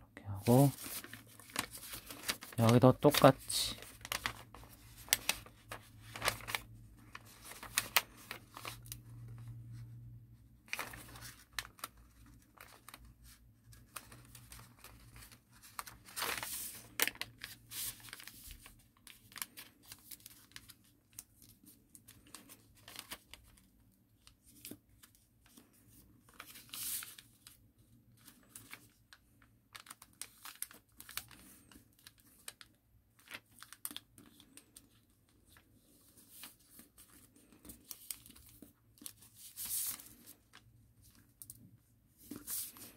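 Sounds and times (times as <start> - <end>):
paper rustling and crinkling: 0.4 - 10.0, 10.6 - 42.9.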